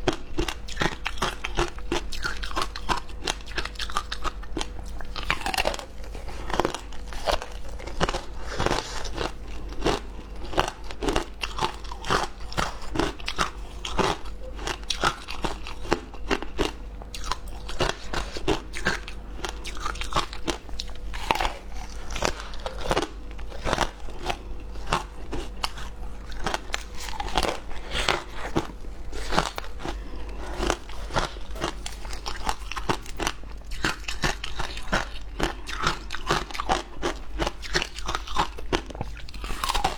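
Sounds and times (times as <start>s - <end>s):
person chewing: 0.0s - 39.9s
person crunching frozen ice: 5.1s - 39.9s.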